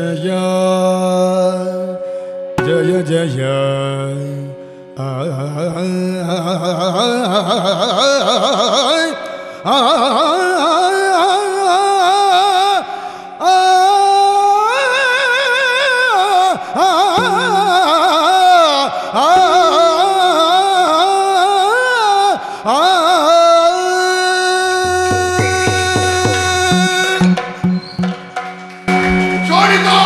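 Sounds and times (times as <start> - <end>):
high ornamented singing voice: 2.6 - 12.8, 13.4 - 27.4.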